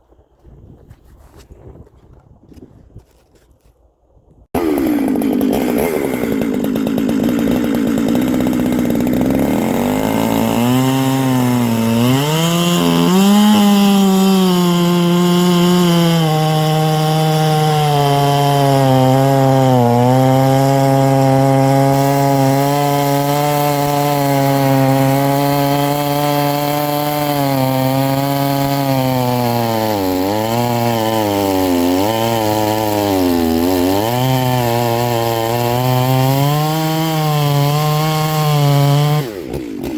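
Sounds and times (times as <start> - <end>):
chainsaw running hard: 4.6 - 39.9.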